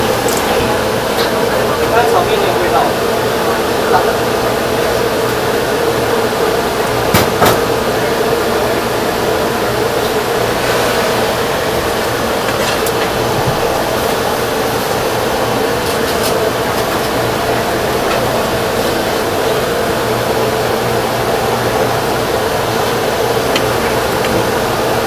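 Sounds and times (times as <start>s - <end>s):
machine drone: 0.0s - 25.0s.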